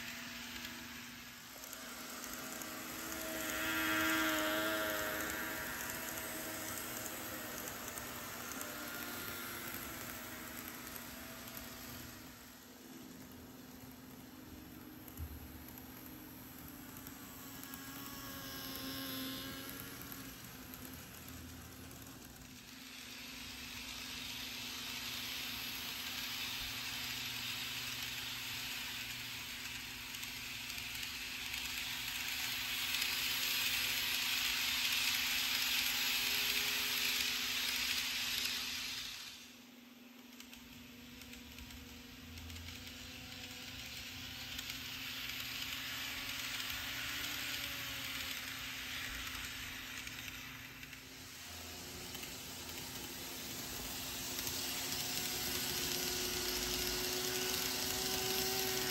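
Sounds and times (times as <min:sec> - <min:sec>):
model train wheels rattling: 0:00.0 - 0:58.9.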